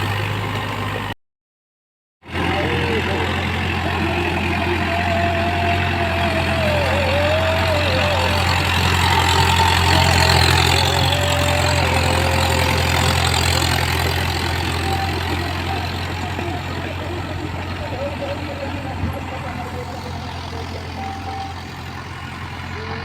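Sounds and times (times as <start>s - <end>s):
tractor diesel engine running: 0.0s - 1.2s, 2.2s - 23.0s.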